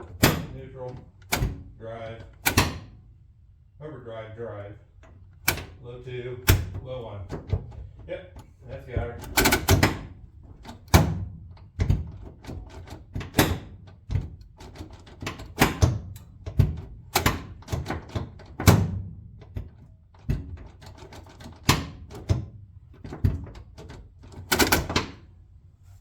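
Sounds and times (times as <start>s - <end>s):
gear shifter clunks and clicks: 0.0s - 3.1s, 5.0s - 25.3s.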